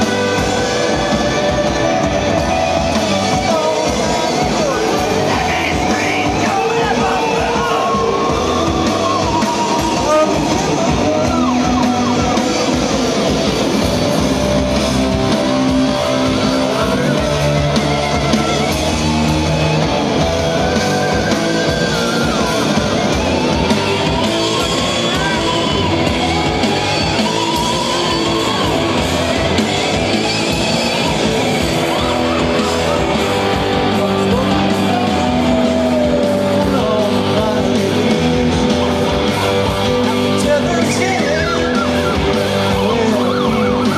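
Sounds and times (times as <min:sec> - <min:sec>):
psychedelic rock band playing: 0:00.0 - 0:43.9.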